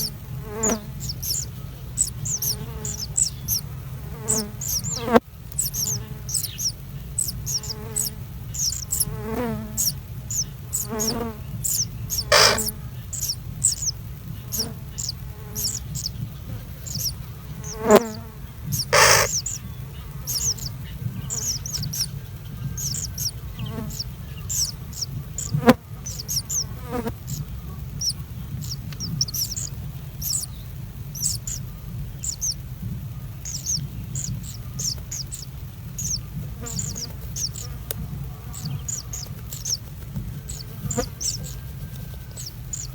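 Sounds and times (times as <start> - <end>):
small birds chirping: 0.0 - 42.9
steady low hum: 0.0 - 42.9.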